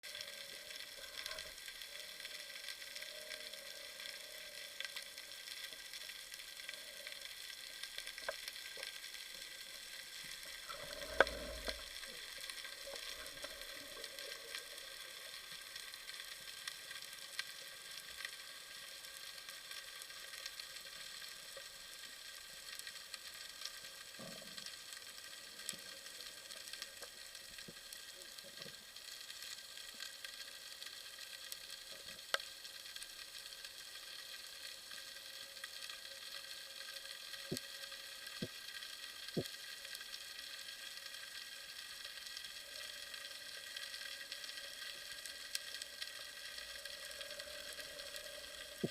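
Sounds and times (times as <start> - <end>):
underwater crackling clicks: 0.1 - 48.9.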